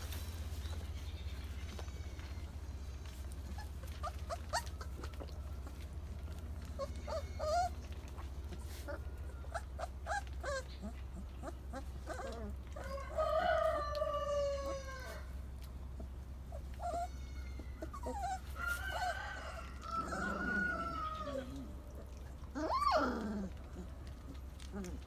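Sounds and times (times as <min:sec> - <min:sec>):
puppies whining and howling: 0:00.7 - 0:25.0.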